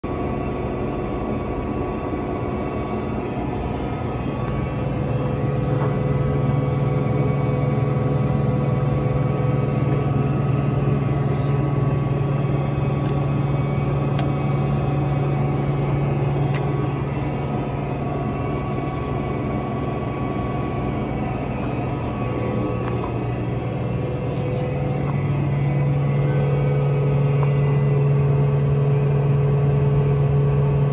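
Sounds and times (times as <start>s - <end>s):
lathe motor and gearing hum: 0.0s - 30.9s.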